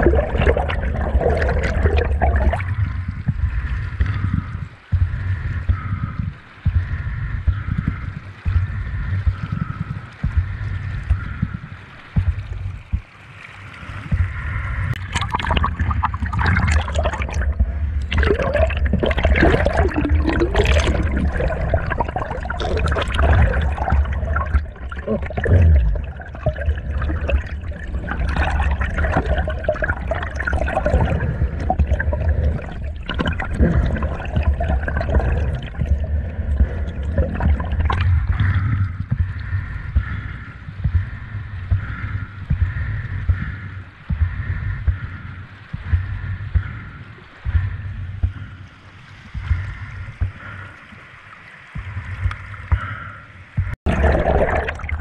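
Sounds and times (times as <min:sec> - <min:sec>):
underwater stream rushing: 0:00.0 - 0:55.0
water sloshing and splashing: 0:00.0 - 0:55.0.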